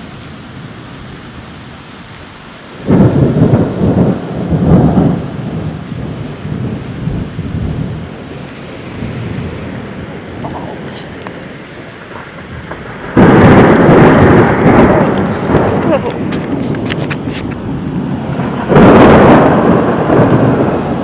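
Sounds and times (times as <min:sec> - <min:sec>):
steady rain: 0:00.0 - 0:21.0
thunder clap rumbling: 0:02.6 - 0:21.0.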